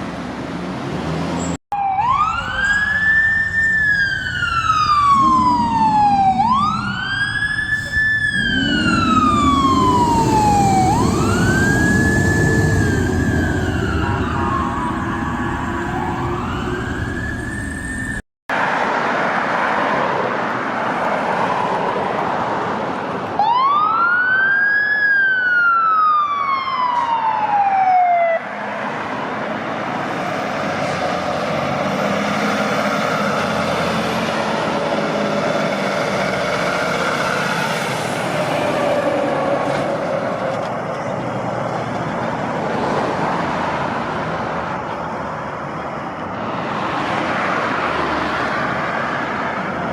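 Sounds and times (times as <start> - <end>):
truck engine: 0.0 - 19.1, 28.5 - 49.9
road noise: 0.0 - 49.9
fire truck siren: 1.7 - 18.2, 23.4 - 49.9.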